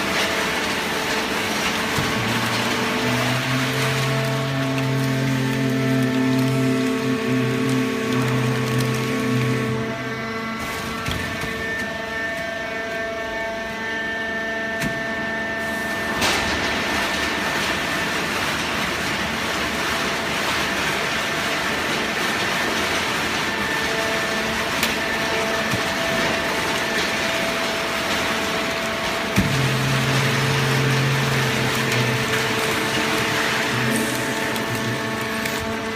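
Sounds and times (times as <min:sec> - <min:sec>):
baling machine hum and whine: 0:00.0 - 0:35.9.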